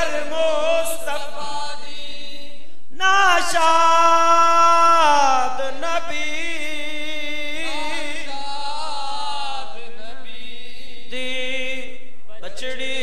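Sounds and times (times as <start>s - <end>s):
man singing a lament: 0.0s - 13.0s.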